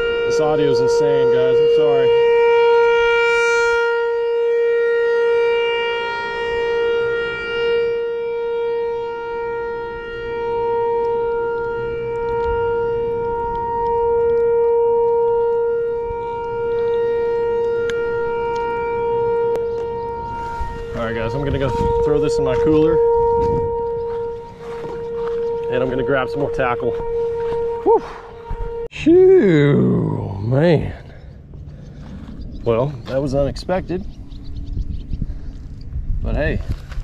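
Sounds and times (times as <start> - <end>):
steady whistling drone: 0.0 - 36.5.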